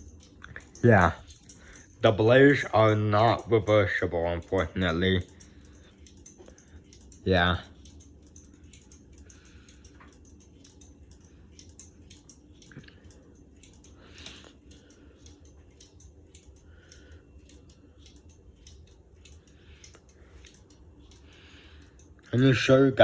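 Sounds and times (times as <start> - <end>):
handling clicks and rattles: 0.0 - 23.0
low steady hum: 0.0 - 23.0.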